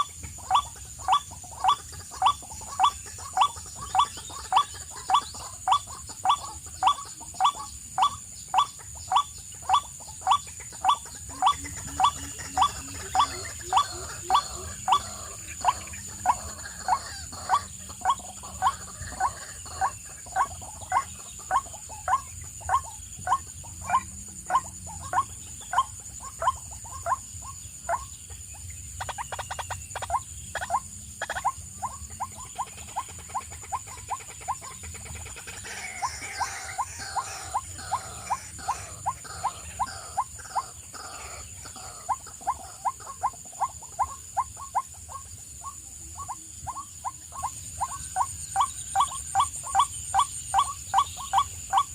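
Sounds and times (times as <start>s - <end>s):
bird calling: 0.0s - 51.9s.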